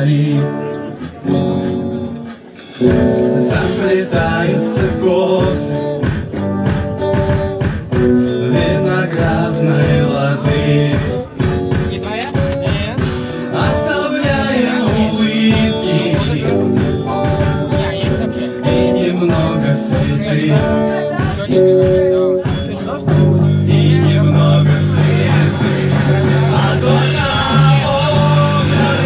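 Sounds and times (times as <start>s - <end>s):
man singing: 0.0s - 1.7s, 2.8s - 29.0s
electric guitars through amps: 0.0s - 29.0s
programmed drums and bass: 0.0s - 29.0s.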